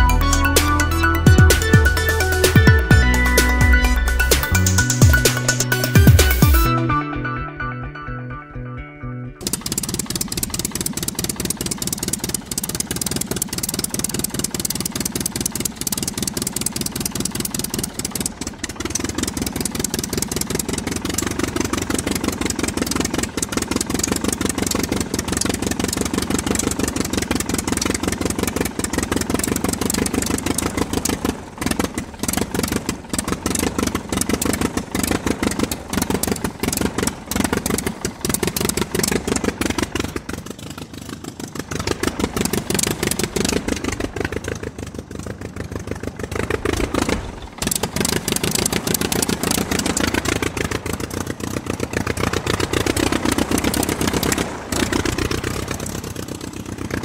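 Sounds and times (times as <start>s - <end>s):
piston engine running: 0.0s - 6.7s, 9.4s - 57.0s.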